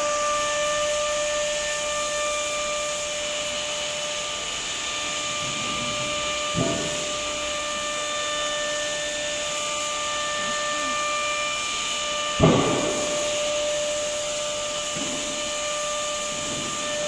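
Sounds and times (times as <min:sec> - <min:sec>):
cnc router hissing and whining: 0:00.0 - 0:17.0.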